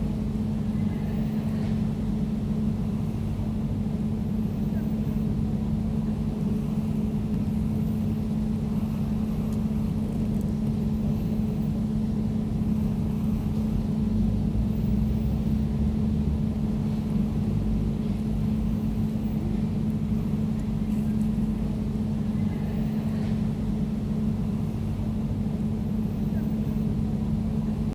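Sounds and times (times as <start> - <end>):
air conditioner humming: 0.0 - 27.9.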